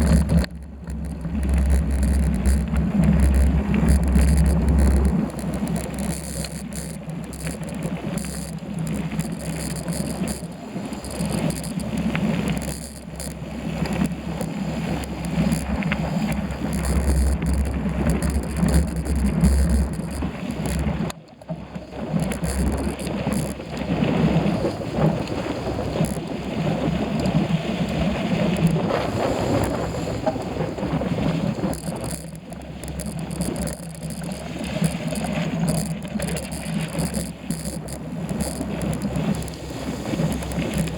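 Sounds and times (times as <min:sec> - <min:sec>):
bicycle rumble: 0:00.0 - 0:40.9.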